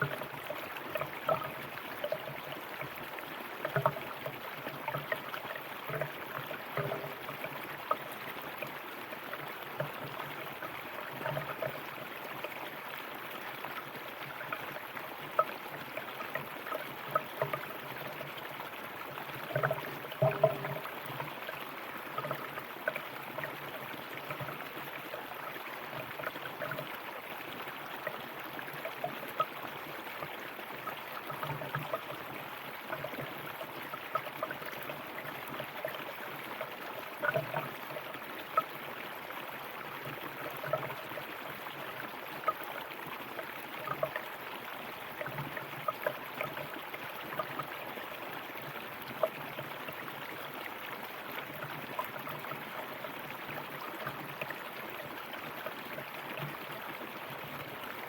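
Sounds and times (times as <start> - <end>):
river water flowing over stones: 0.0 - 58.0
water gurgles and splashes: 0.0 - 58.0.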